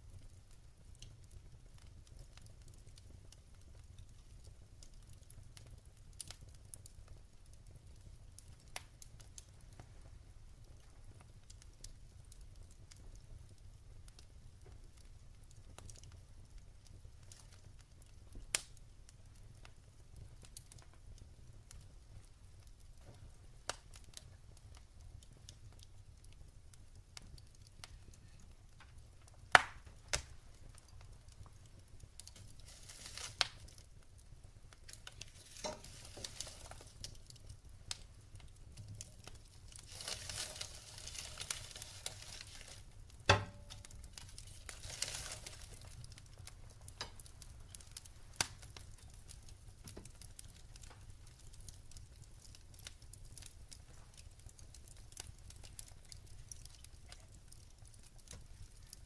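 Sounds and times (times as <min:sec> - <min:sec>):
logs crackling and popping: 0:00.0 - 0:59.0
low fire hiss: 0:00.0 - 0:59.0.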